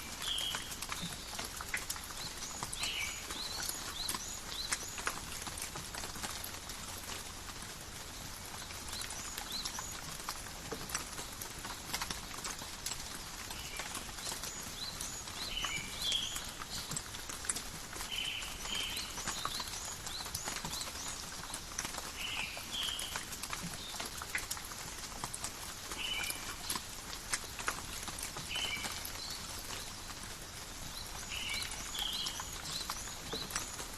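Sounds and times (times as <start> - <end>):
rain dripping in forest: 0.0 - 33.9.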